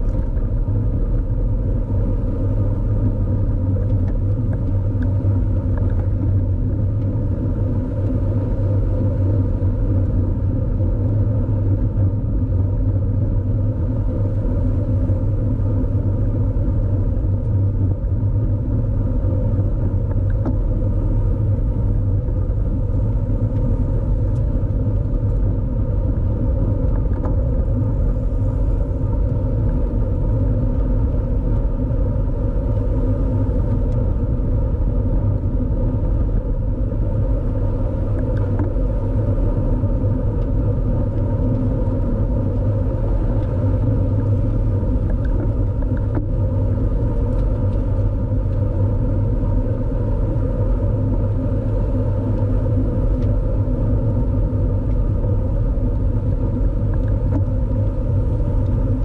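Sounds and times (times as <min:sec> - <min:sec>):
road rumble: 0:00.0 - 0:59.0
wind rush on microphone: 0:00.0 - 0:59.0.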